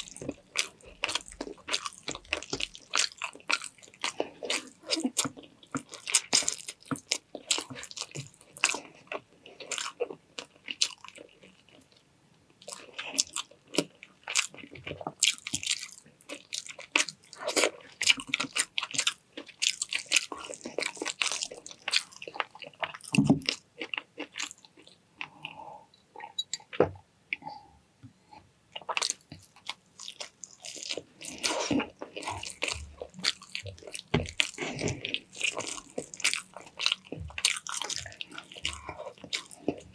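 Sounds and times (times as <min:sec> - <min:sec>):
person chewing and crunching food: 0:00.0 - 0:12.0, 0:12.6 - 0:26.8, 0:28.7 - 0:39.9.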